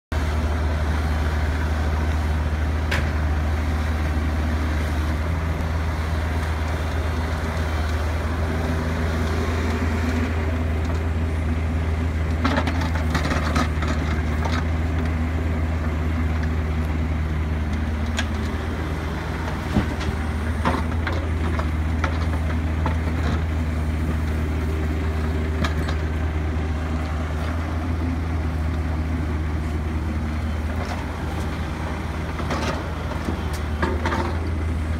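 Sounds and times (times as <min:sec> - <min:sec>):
diesel engine running under load: 0:00.1 - 0:34.9.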